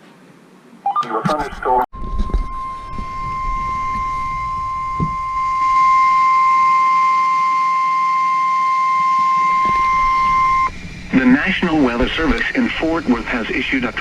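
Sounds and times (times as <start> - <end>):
steady warning alarm beep: 2.0 - 13.5.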